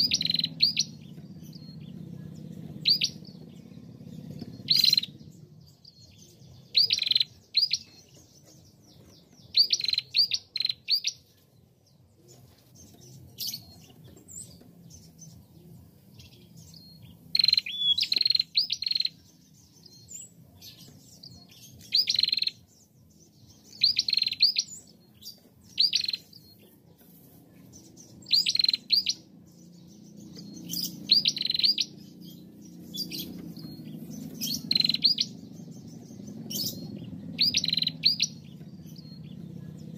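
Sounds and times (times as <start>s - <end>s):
bird chirping rapidly: 0.0s - 11.3s, 13.0s - 26.7s, 27.7s - 39.9s.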